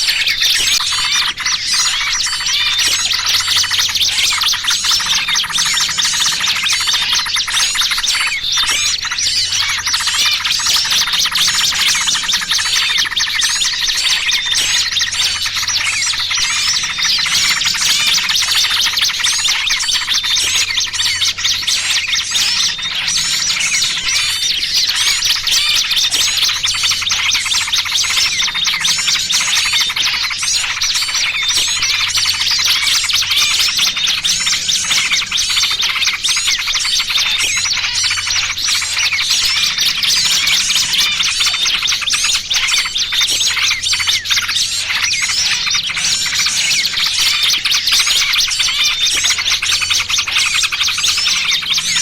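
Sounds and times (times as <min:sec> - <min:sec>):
bird alarm calls: 0:00.0 - 0:52.0
small birds chirping and twittering: 0:00.0 - 0:52.0.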